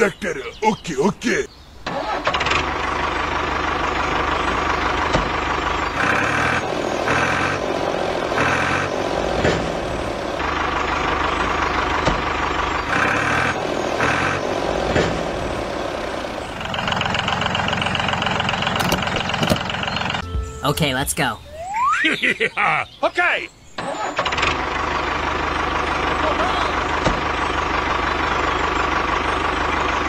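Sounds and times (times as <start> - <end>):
tractor engine running: 1.8 - 22.0, 23.7 - 30.0.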